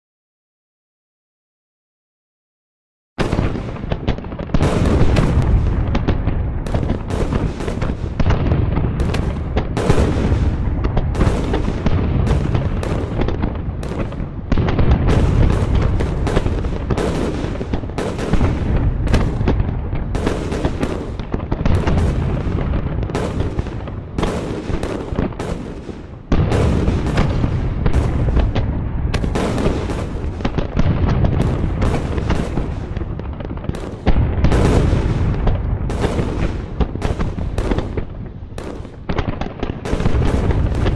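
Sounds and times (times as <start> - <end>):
explosions: 3.2 - 40.9
gunshots: 3.2 - 40.9.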